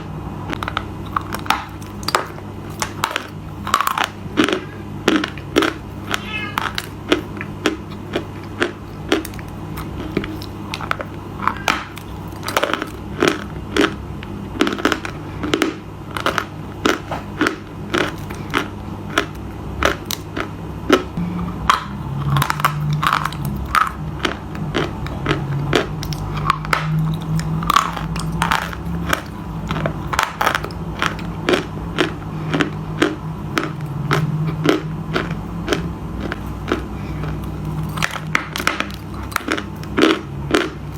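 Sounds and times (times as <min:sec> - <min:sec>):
crunchy chewing: 0:00.6 - 0:40.9.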